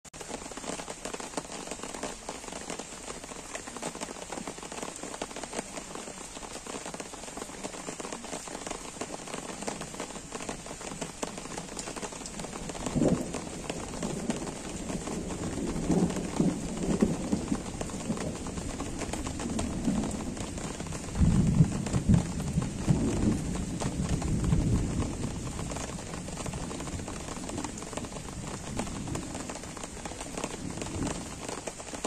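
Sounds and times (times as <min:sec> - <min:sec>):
gentle rain falling: 0:00.0 - 0:32.0.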